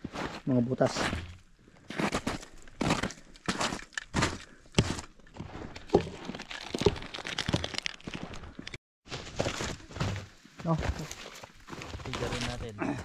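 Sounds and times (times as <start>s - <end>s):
footsteps crunching in snow: 0.0s - 12.8s.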